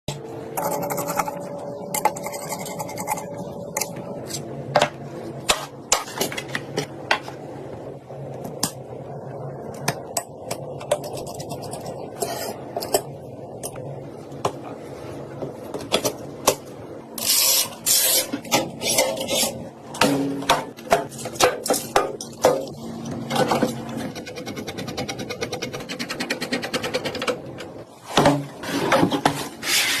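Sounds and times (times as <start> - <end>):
steady low hum: 0.1 - 30.0.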